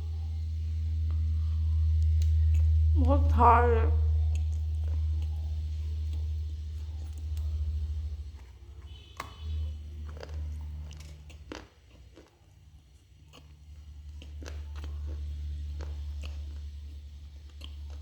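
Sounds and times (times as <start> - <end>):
crunching and chewing clay: 0.0 - 18.0
low steady rumble: 0.0 - 18.0.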